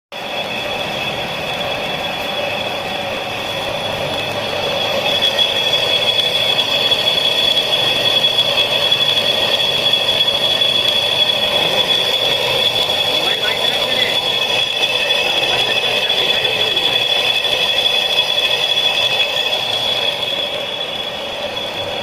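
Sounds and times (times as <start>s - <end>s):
lathe whining: 0.1s - 22.0s.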